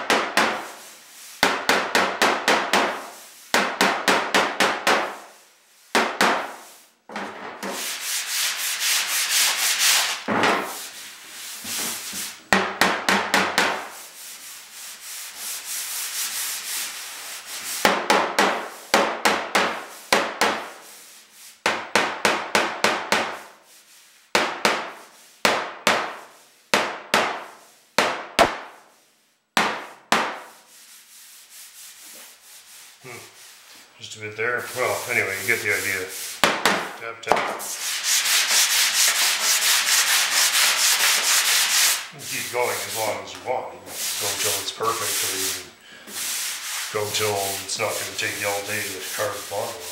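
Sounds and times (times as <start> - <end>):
rubbing sound: 0.4 - 12.4, 13.4 - 21.7, 23.1 - 25.4, 29.8 - 49.9.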